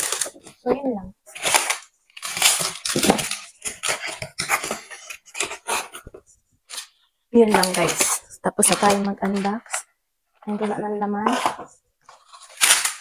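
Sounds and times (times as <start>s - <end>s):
cardboard packaging rustling: 0.0s - 9.9s, 10.5s - 13.0s.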